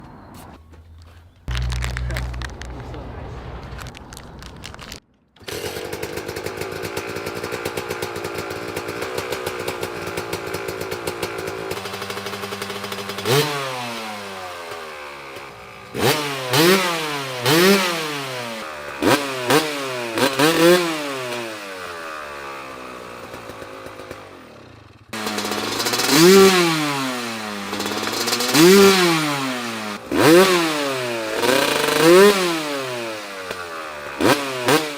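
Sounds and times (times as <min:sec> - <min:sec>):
dirt bike engine revving: 0:01.5 - 0:34.9.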